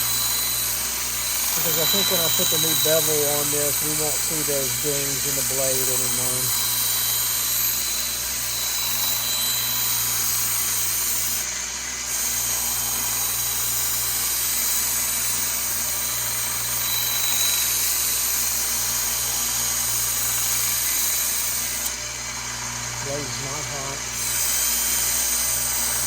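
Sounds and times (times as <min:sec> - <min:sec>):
belt sander grinding: 0:00.0 - 0:26.0.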